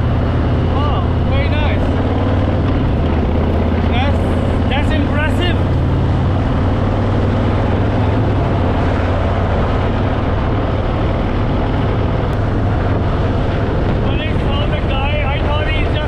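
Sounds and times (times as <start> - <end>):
motorcycle engine humming: 0.0 - 16.0
wind and road noise: 0.0 - 16.0.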